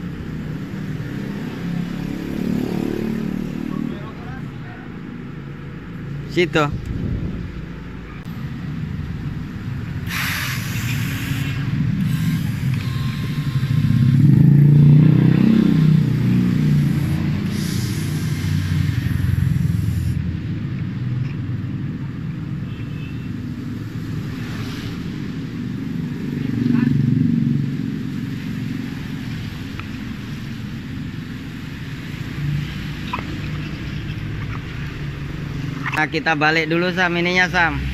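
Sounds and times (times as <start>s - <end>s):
car passing: 0.0s - 37.9s
road traffic rumble: 0.0s - 37.9s.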